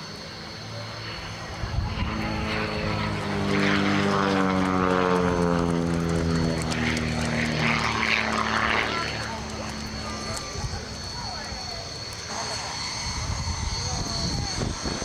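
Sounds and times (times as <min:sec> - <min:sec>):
biplane engine droning past: 0:00.0 - 0:15.0.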